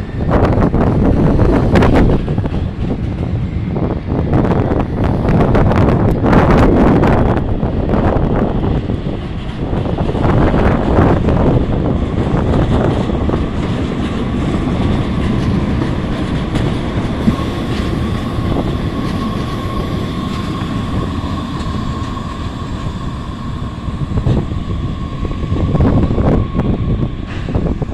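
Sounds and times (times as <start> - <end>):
light rail train passing: 0.0 - 27.9.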